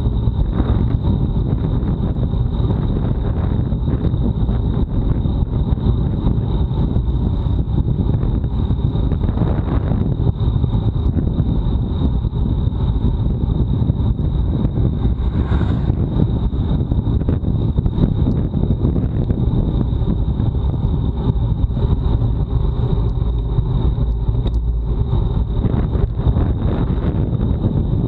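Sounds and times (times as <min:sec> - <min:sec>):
high-pitched whine: 0:00.0 - 0:28.0
road noise: 0:00.0 - 0:28.0
wind buffeting microphone: 0:00.0 - 0:28.0.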